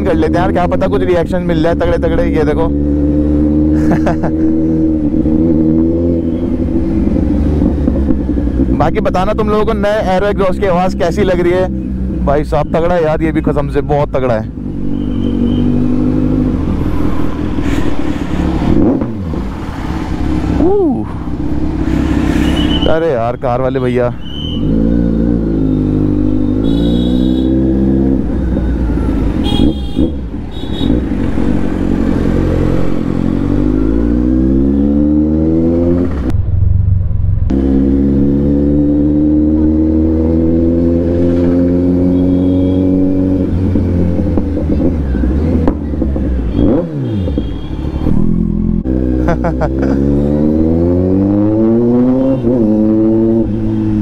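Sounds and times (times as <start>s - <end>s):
motorcycle engine revving: 0.0s - 23.2s, 23.8s - 54.0s.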